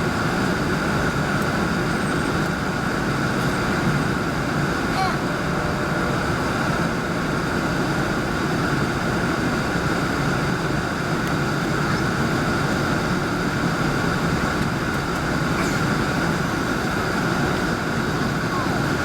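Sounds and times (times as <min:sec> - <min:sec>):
engine rumble in cabin: 0:00.0 - 0:19.0
steady whine: 0:00.0 - 0:19.0.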